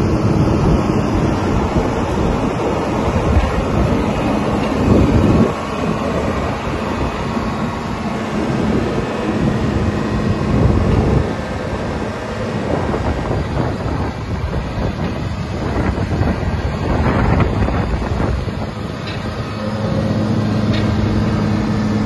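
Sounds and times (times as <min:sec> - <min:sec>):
diesel engine idling: 0:00.0 - 0:22.0
wind buffeting microphone: 0:00.0 - 0:22.0.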